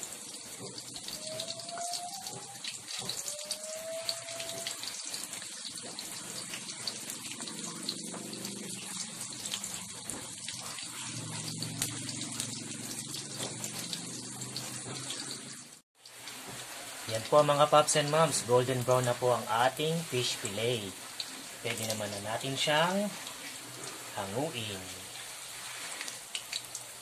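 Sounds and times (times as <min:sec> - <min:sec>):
fish deep-frying in oil: 0:00.0 - 0:27.0.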